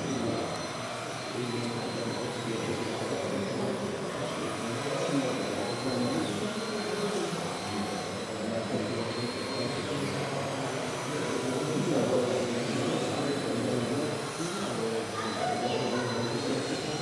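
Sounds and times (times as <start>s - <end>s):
murmur of voices: 0.0s - 17.0s
steady whirring: 0.0s - 17.0s.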